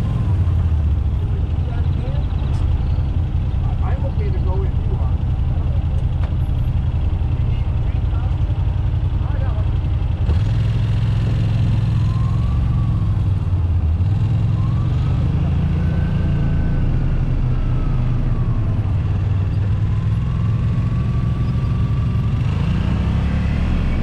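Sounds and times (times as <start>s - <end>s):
utility vehicle engine running: 0.0s - 24.0s.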